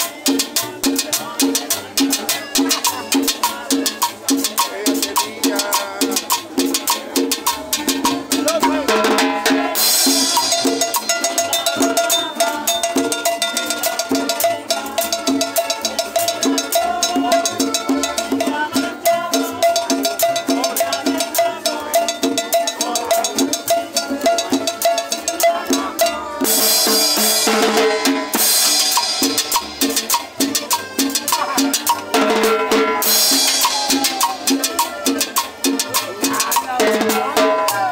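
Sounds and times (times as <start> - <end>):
cumbia band playing: 0.0 - 37.9
drums and hand percussion: 0.0 - 37.9.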